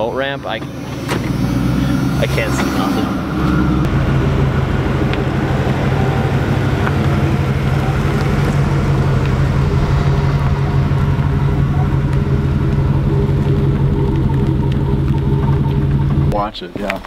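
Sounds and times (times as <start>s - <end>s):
pickup truck engine idling: 0.0s - 16.4s.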